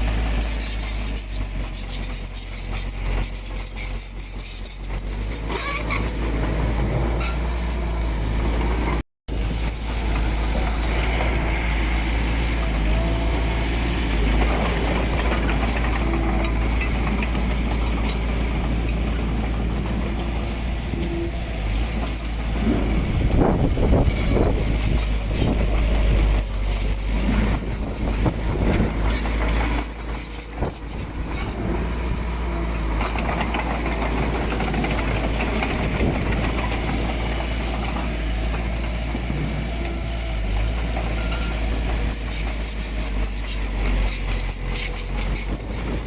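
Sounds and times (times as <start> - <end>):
diesel engine rumbling: 0.0 - 46.0.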